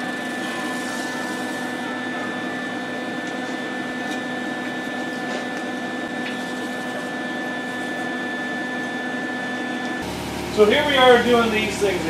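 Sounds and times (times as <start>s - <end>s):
droning machine hum: 0.0s - 12.0s.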